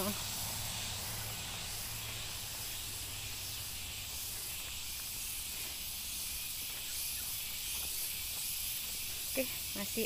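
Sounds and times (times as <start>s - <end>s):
cicadas droning: 0.0s - 10.0s.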